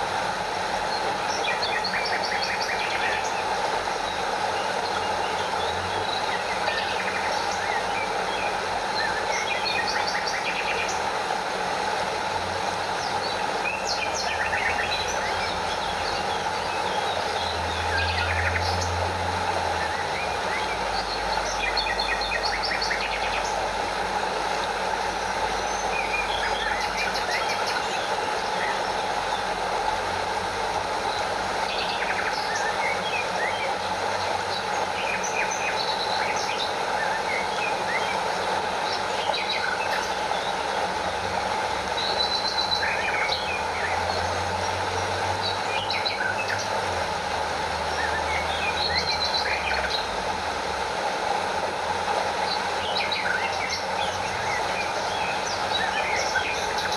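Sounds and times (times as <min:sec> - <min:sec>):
stream and waterfall rushing: 0:00.0 - 0:56.9.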